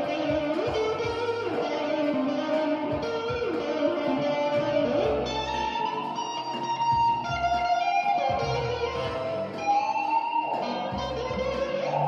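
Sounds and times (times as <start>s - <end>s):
electric guitar melody: 0.0s - 12.0s.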